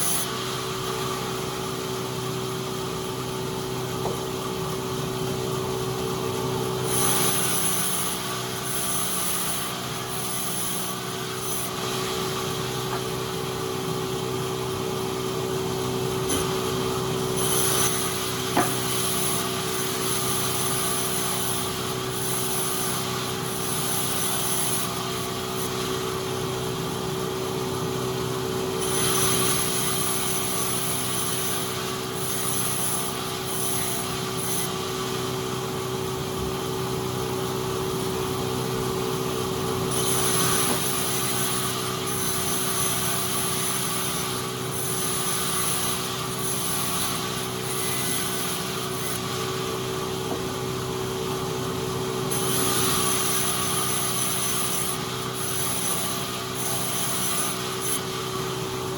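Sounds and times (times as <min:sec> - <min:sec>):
sawmill saw cutting wood: 0:06.7 - 0:27.3, 0:28.2 - 0:36.7, 0:37.5 - 0:58.9.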